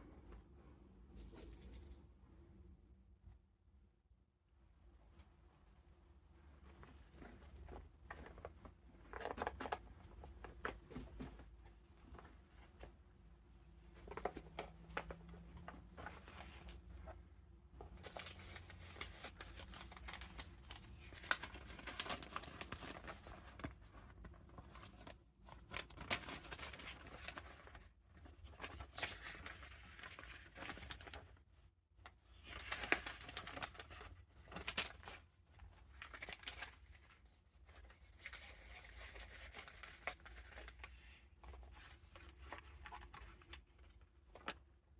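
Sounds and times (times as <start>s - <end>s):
paper rustling and crinkling: 6.7s - 13.0s, 13.9s - 17.2s, 17.8s - 44.7s.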